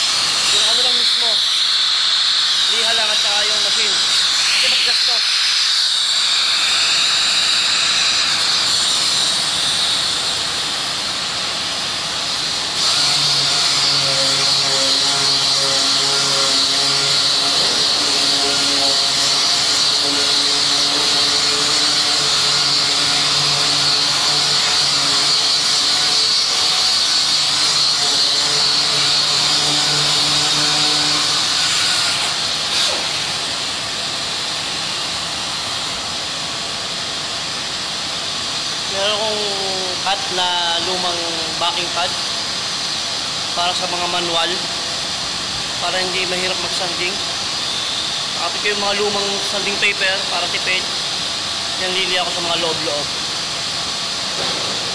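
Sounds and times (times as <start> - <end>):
machine sander hissing: 0.0 - 54.9.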